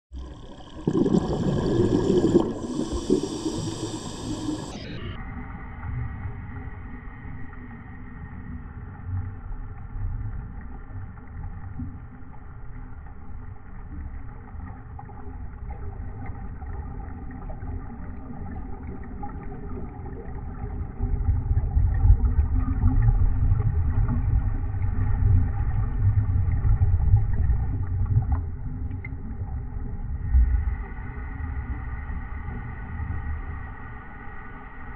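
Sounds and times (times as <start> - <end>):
low rumble underwater: 0.1 - 34.9.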